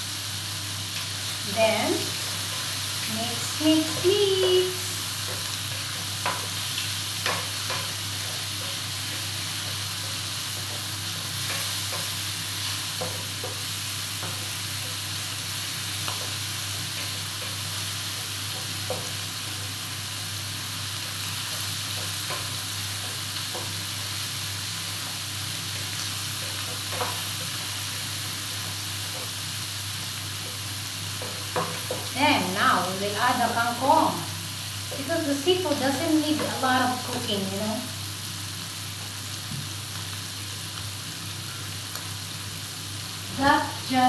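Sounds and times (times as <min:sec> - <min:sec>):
seafood sizzling in a pan: 0:00.0 - 0:44.0.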